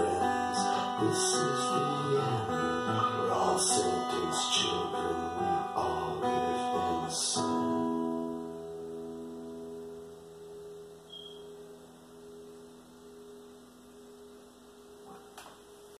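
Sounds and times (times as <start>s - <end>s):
acoustic guitar chord ringing: 0.0s - 16.0s.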